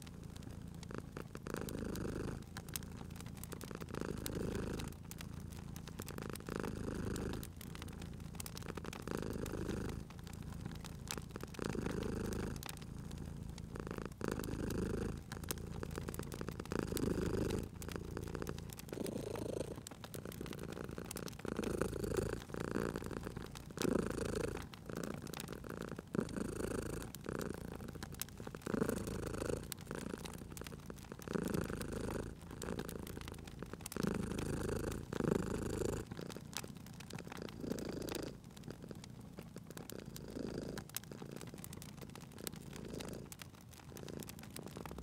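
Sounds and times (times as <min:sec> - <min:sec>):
cat purring: 0:00.0 - 0:45.0
wood fire crackling: 0:00.0 - 0:45.0.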